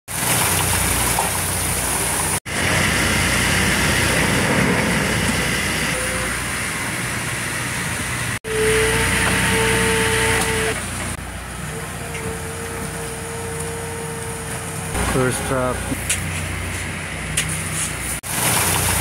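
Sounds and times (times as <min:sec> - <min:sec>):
engine machinery droning: 0:02.0 - 0:17.4.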